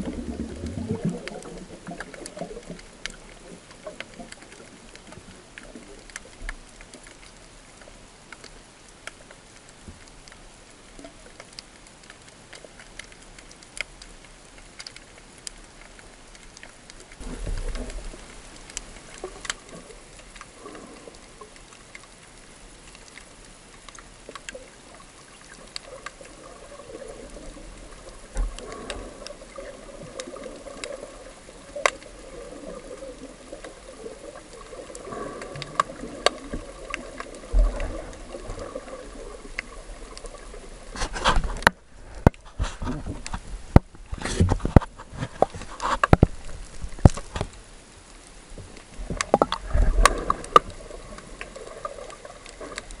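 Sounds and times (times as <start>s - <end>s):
muffled underwater hiss with clicks: 0.0s - 53.0s
water splashing and bubbling: 0.0s - 53.0s.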